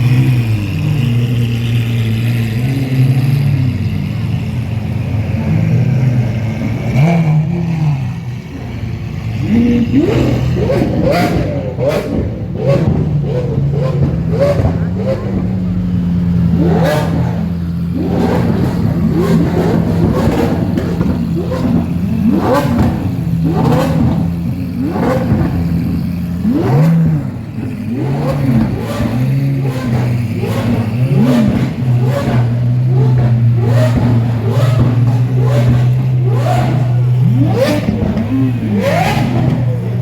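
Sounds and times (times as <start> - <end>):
engine throttle blips: 0.0 - 40.0
supercar engines idling: 0.0 - 40.0.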